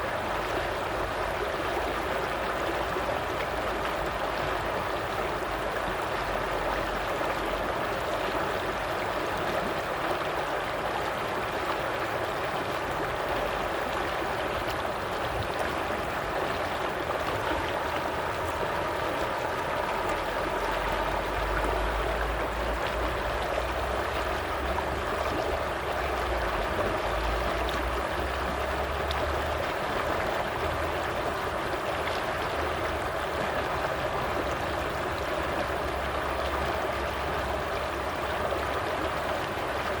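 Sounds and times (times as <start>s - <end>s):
stream water running: 0.0s - 40.0s.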